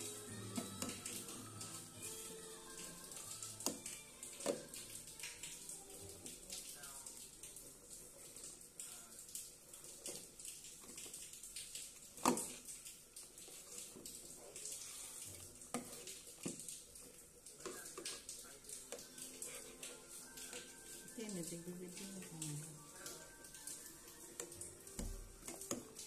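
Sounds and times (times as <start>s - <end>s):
broth sloshing in pot: 0.0s - 26.0s.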